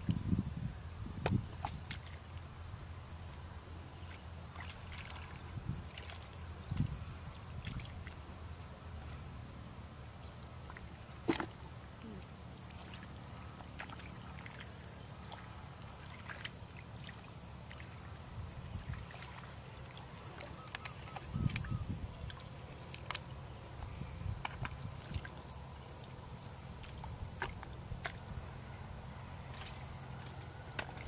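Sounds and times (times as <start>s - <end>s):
soft low splashes: 0.0s - 31.0s
hands sloshing through muddy water: 1.2s - 2.5s, 3.3s - 8.5s, 10.5s - 31.0s.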